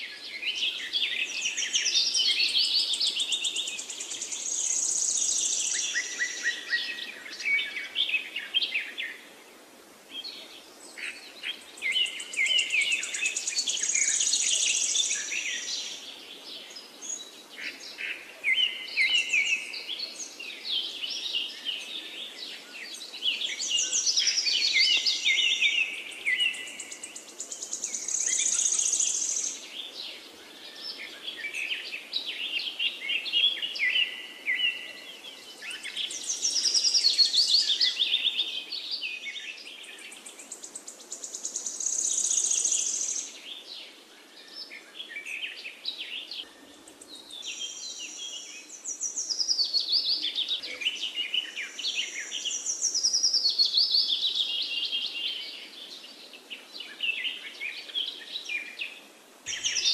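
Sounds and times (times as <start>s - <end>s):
birds chirping and singing: 10.2s - 59.9s.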